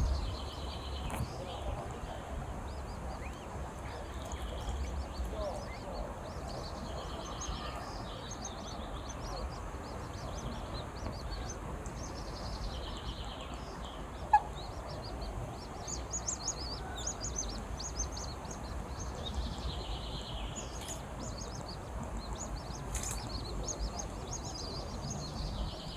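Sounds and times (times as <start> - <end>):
ducklings peeping: 0.0 - 25.9.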